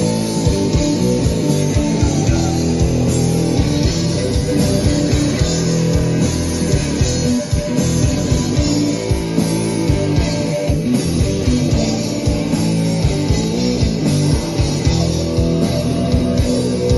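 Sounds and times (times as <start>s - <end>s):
rock band playing live: 0.0s - 16.9s.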